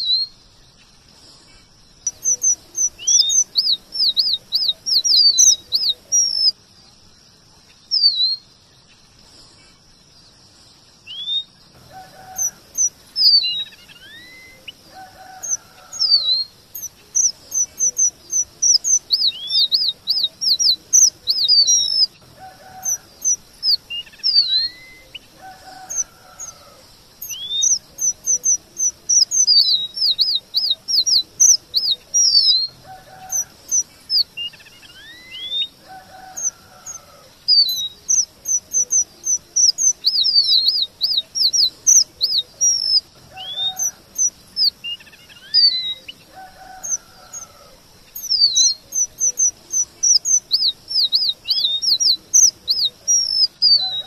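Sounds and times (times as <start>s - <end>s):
finch singing high chirps: 2.0s - 6.6s, 7.8s - 8.5s, 11.1s - 26.6s, 27.2s - 54.0s.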